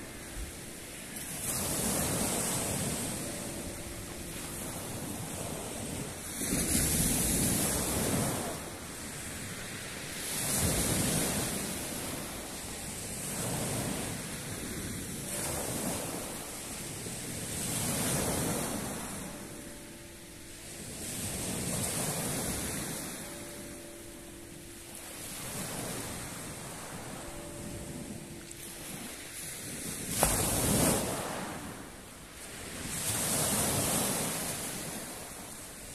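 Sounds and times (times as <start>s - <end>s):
waves washing on pebble beach: 0.0s - 35.9s.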